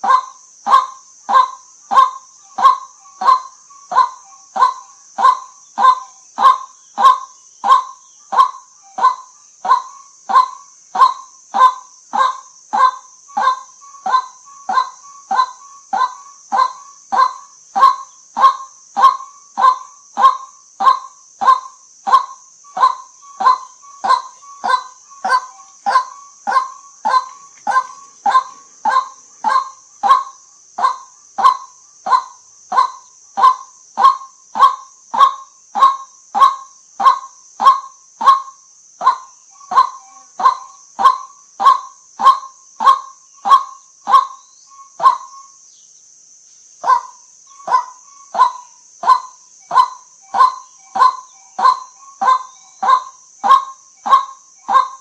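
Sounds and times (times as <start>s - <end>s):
waterhen honking kwak call: 0.0s - 44.4s, 46.8s - 55.0s.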